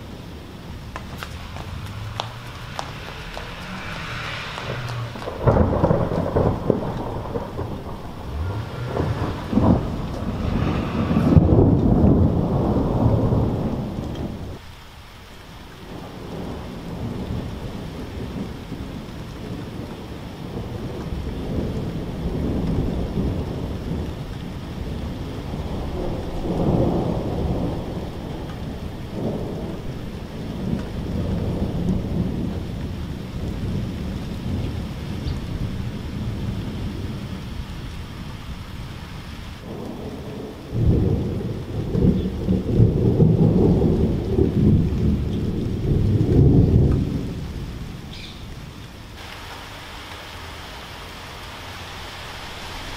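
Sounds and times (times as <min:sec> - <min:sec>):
rain hiss: 0:00.0 - 0:52.9
thunder rumbling: 0:00.0 - 0:52.9.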